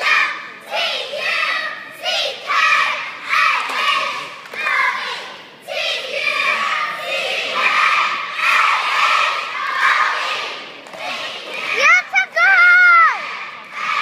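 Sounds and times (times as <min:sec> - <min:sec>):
girls shouting a cheer: 0:00.0 - 0:10.6, 0:11.3 - 0:14.0.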